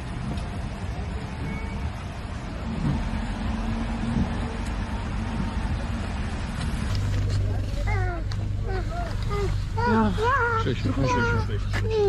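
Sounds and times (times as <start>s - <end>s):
vehicle and street noise: 0.0s - 12.0s.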